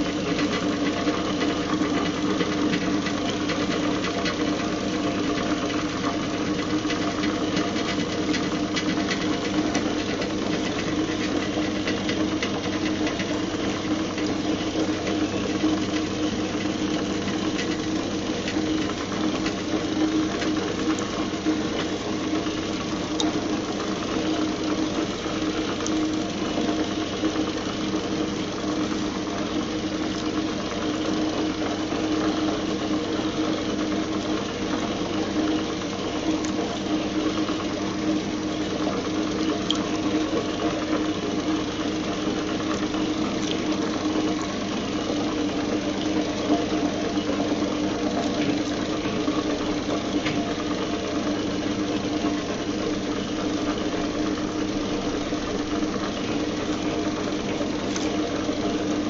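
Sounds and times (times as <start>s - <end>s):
washing machine motor hum: 0.0s - 59.0s
water churning in tub: 0.0s - 59.0s.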